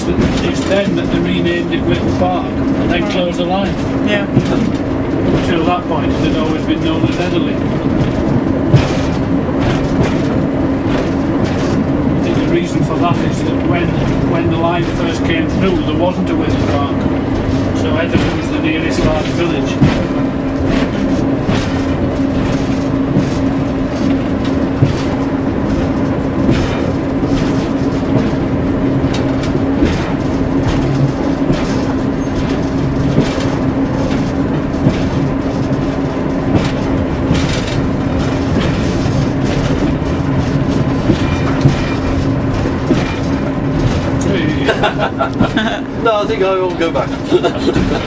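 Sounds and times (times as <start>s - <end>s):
engine and transmission drone: 0.0s - 48.0s
wheel and rail rumble: 0.0s - 48.0s.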